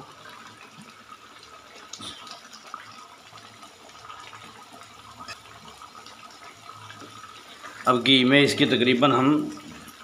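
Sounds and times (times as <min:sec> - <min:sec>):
curry sizzling and bubbling: 0:00.0 - 0:10.0.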